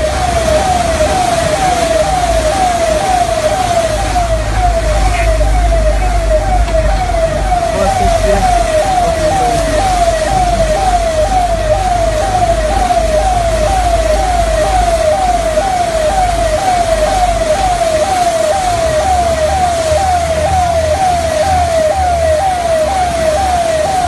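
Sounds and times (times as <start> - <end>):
electronic siren sweeping: 0.0 - 24.0.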